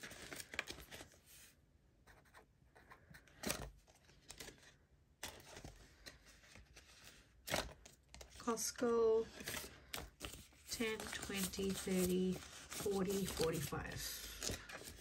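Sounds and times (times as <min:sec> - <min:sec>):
paper and banknotes rustling: 0:00.0 - 0:01.5, 0:03.0 - 0:15.0.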